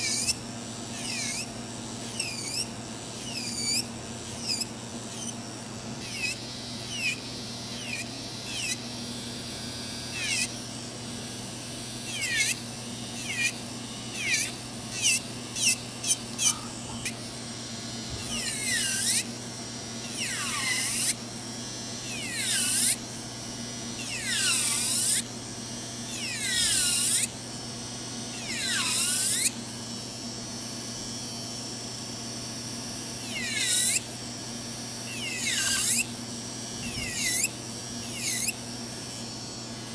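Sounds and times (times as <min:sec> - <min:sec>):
electric nail drill whining: 0:00.0 - 0:39.9.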